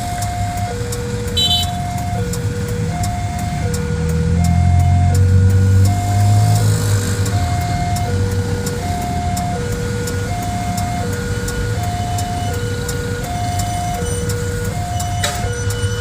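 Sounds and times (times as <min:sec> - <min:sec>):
level crossing two-tone alarm: 0:00.0 - 0:06.7, 0:07.3 - 0:16.0
vehicle engines idling: 0:00.0 - 0:16.0.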